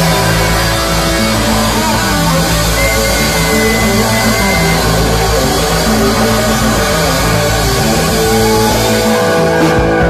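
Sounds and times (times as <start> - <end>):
bass guitar: 0.0 - 10.0
drums: 0.0 - 10.0
electric guitar: 0.0 - 10.0.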